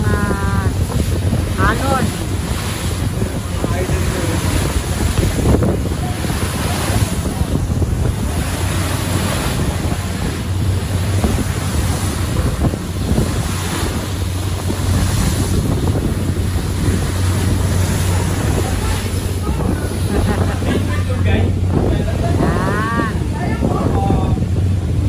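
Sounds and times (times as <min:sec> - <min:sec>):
low drone of ship engines: 0:00.0 - 0:25.0
sea rushing along ship hull: 0:00.0 - 0:25.0
wind buffeting microphone: 0:00.0 - 0:25.0.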